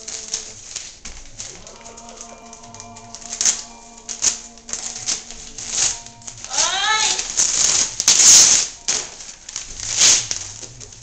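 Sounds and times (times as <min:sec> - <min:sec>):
wrapping paper ripping and rustling: 0:00.0 - 0:11.0.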